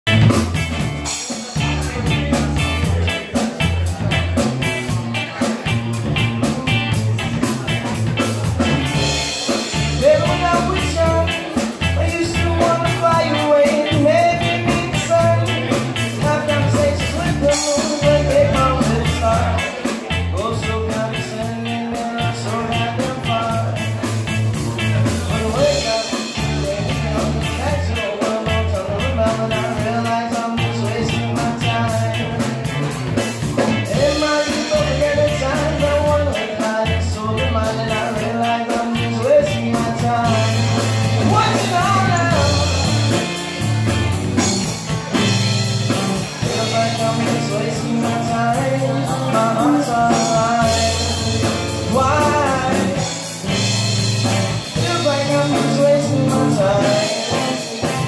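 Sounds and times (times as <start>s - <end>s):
drum kit: 0.0s - 58.0s
electric bass: 0.0s - 58.0s
electric guitar: 0.0s - 58.0s
man singing: 0.0s - 58.0s.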